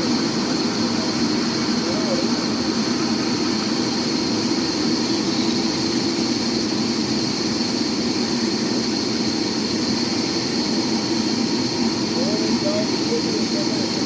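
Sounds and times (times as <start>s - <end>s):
sawmill machinery running: 0.0s - 14.0s.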